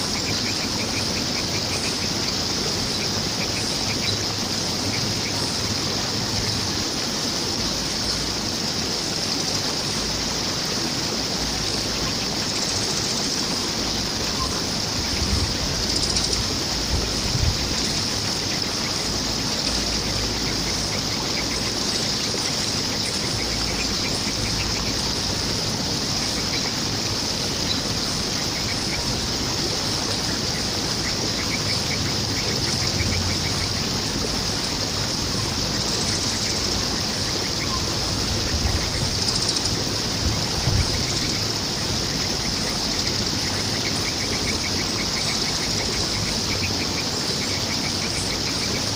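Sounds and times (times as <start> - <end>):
flowing water rushing: 0.0 - 48.9.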